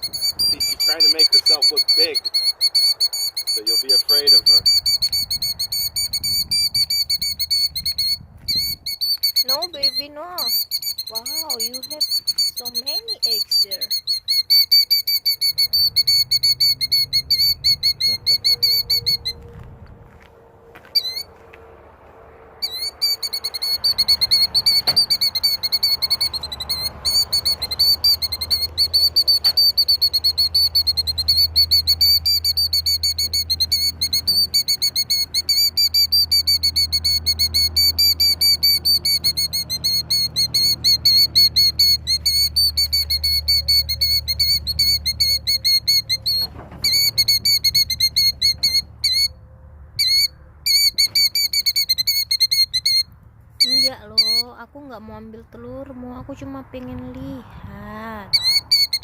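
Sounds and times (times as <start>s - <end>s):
bird alarm call: 0.0s - 19.5s, 20.9s - 21.4s, 22.6s - 49.4s, 50.0s - 54.6s, 58.3s - 59.0s.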